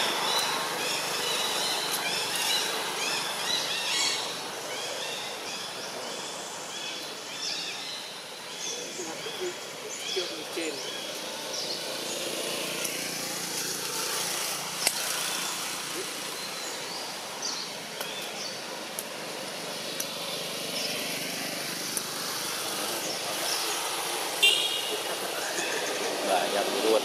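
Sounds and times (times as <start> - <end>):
distant road traffic hiss: 0.0 - 27.0.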